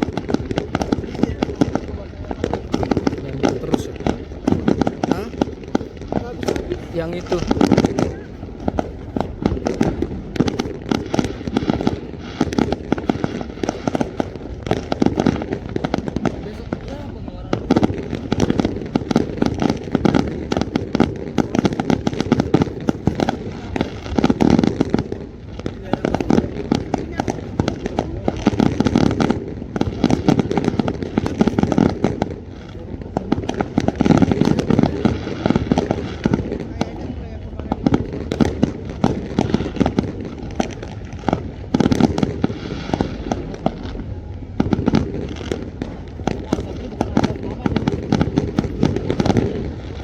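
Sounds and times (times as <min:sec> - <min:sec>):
fireworks bangs: 0:00.0 - 0:50.0.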